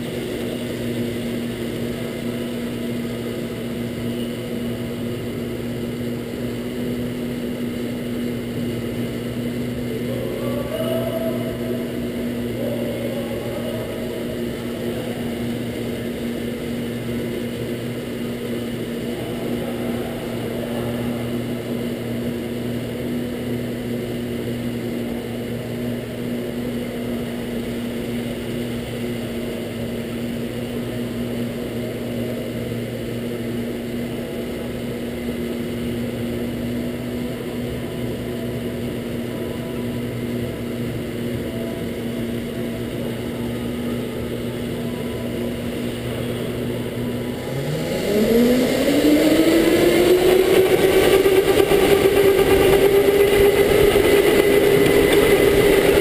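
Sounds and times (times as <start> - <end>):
go-kart motor drone: 0.0 - 56.0.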